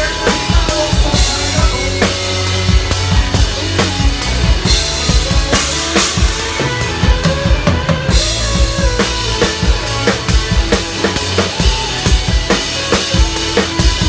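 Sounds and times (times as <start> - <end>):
band playing: 0.0 - 14.0.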